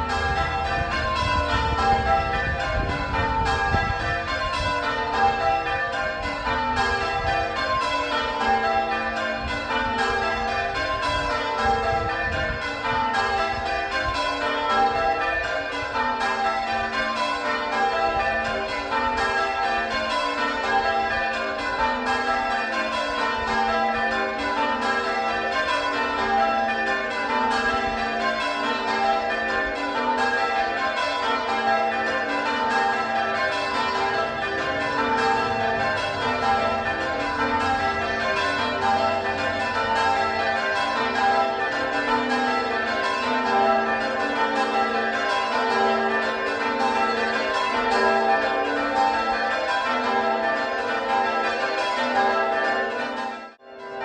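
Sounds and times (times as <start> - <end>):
church bells change-ringing: 0.0 - 54.0.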